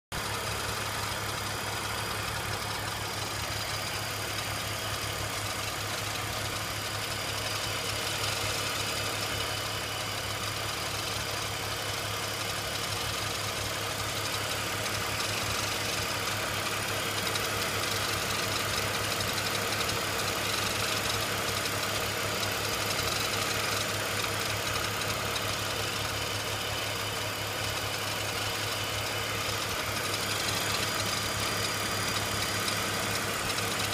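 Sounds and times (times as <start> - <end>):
car engine idling: 0.1 - 33.9
odd engine noise: 0.1 - 33.9.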